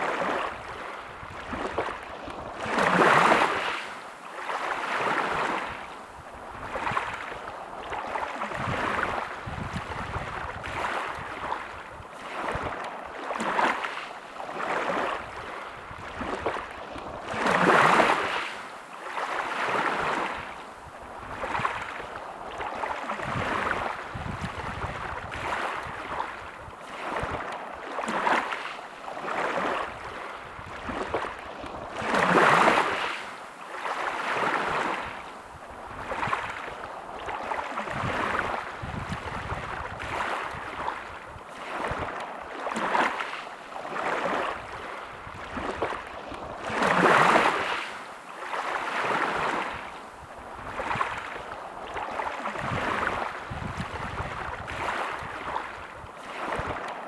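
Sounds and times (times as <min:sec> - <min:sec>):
sea waves breaking ashore: 0:00.0 - 0:57.0.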